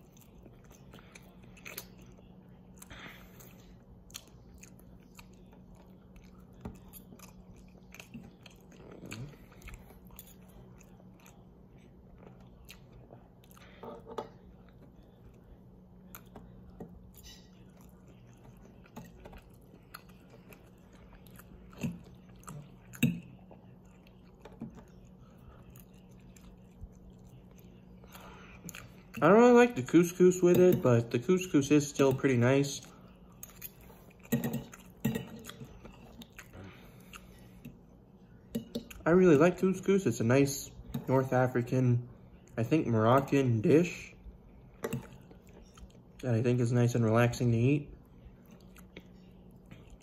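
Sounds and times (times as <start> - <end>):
person chewing food: 0.0 - 29.4, 32.1 - 39.0, 44.0 - 46.2, 48.0 - 50.0.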